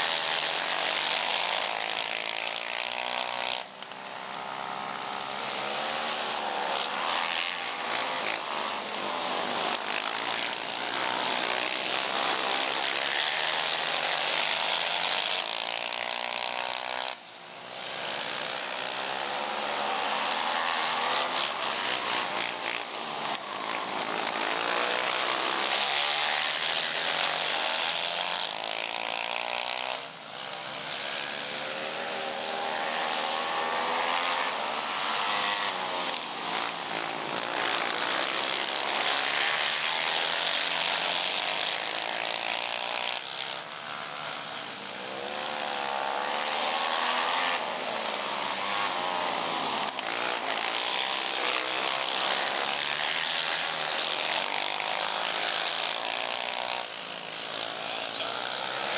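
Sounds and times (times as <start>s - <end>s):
atv engines revving: 0.0s - 58.9s.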